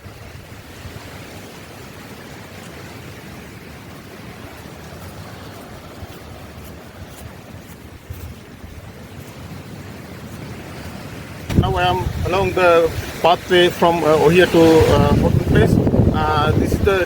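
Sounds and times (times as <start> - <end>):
wind blowing: 0.0 - 17.0
wind buffeting microphone: 0.0 - 17.0.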